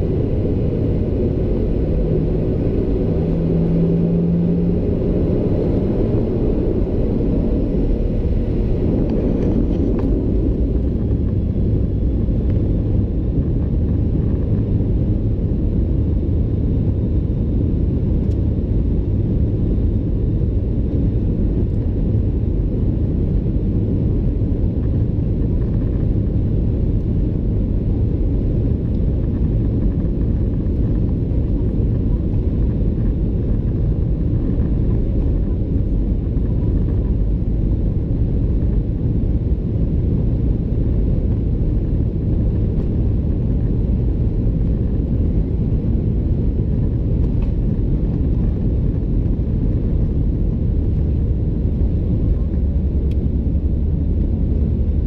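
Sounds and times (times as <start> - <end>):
jet cabin low rumble: 0.0 - 55.0.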